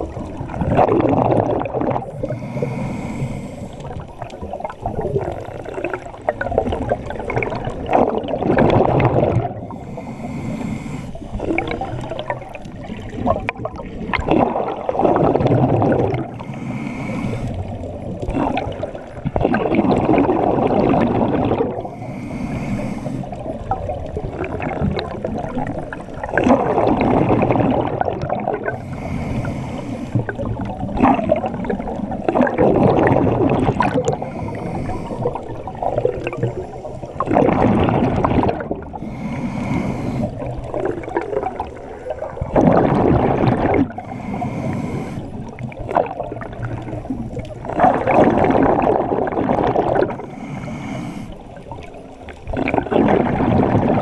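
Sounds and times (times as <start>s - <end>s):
exhaled bubbles bursting: 0.0s - 2.8s, 3.8s - 10.0s, 11.2s - 16.5s, 17.4s - 22.0s, 23.2s - 29.0s, 30.1s - 39.2s, 40.2s - 50.3s, 51.3s - 54.0s.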